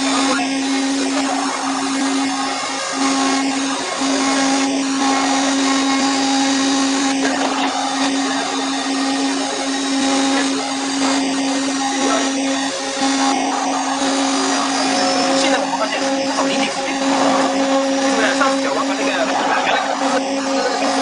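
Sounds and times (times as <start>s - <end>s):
milling machine spindle whine: 0.0s - 21.0s.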